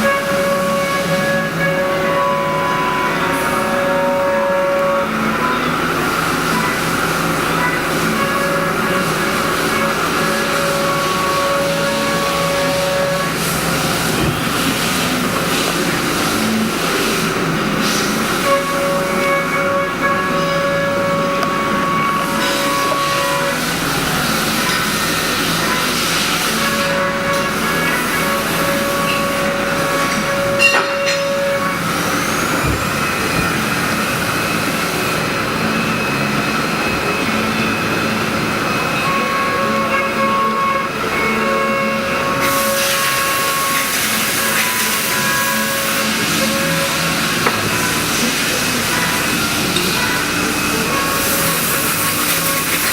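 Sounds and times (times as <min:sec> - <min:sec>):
machine whining tones: 0:00.0 - 0:52.9
milling machine running: 0:00.0 - 0:52.9.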